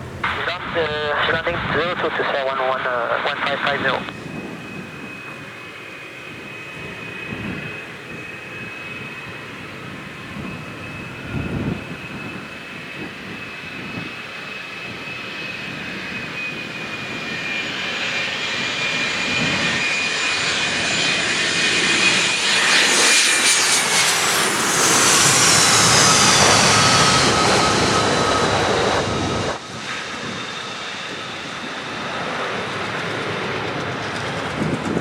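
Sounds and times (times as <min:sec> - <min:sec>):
jet airliner engines whining: 0:00.0 - 0:35.0.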